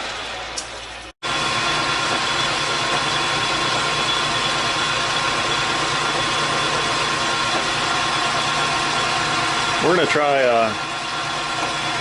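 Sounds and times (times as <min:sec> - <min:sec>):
high machine whine: 0:01.2 - 0:12.0
machine tool humming: 0:01.2 - 0:12.0.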